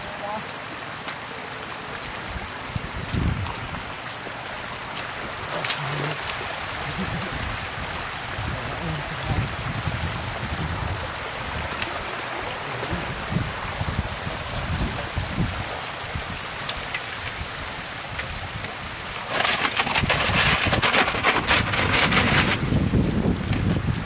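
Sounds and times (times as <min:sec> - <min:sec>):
rapid splashing: 0:00.0 - 0:24.0
steady watery hiss: 0:00.0 - 0:24.0
wind rumbling on microphone: 0:02.0 - 0:24.0.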